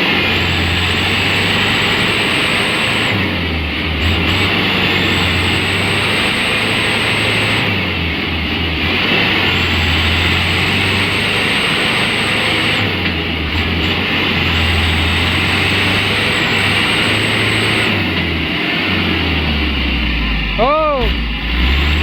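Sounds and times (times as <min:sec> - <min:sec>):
diesel engine straining: 0:00.0 - 0:22.0.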